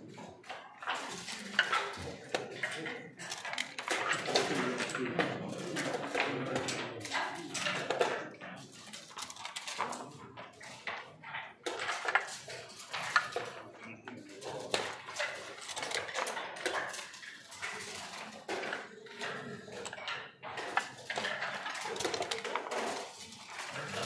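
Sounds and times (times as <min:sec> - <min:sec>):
checkers clacking on board: 0:00.0 - 0:24.0.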